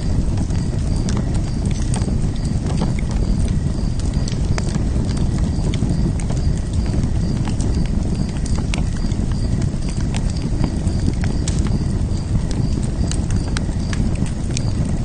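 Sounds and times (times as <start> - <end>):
low rush of flames: 0.0 - 15.0
wood fire crackling and popping: 0.0 - 15.0.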